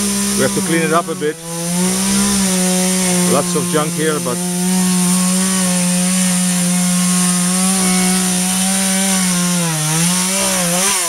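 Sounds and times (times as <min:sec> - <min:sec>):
chainsaw running at high revs: 0:00.0 - 0:11.0.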